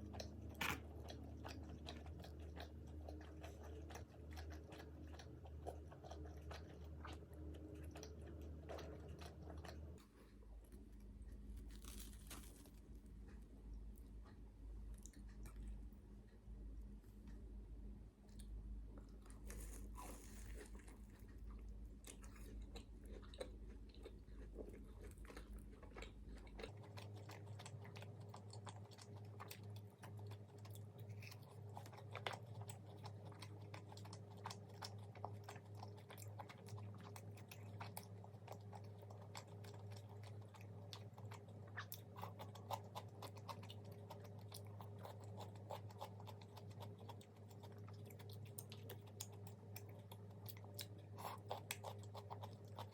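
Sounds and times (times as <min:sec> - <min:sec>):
chewing crispy fried food: 0:00.0 - 0:17.4, 0:18.2 - 0:52.9
low steady hum: 0:00.0 - 0:52.9.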